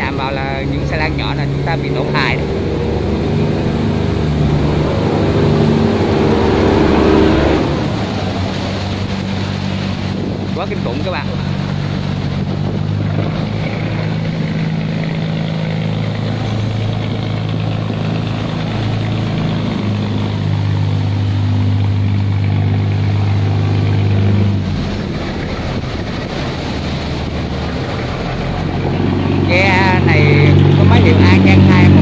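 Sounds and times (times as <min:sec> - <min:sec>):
barge diesel engines humming: 0:00.0 - 0:32.0
water churning: 0:00.0 - 0:32.0.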